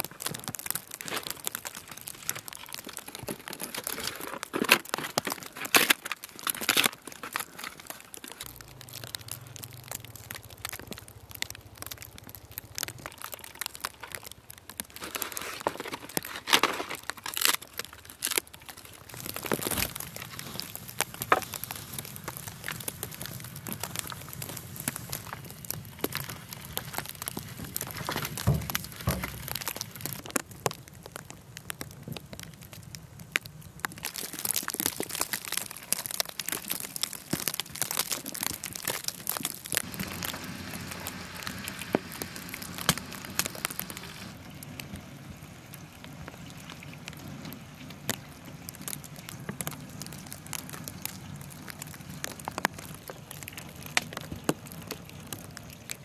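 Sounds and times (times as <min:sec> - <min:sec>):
water pouring from hose: 0:00.0 - 0:32.3, 0:33.4 - 0:56.0
wood fire crackling: 0:00.0 - 0:56.0.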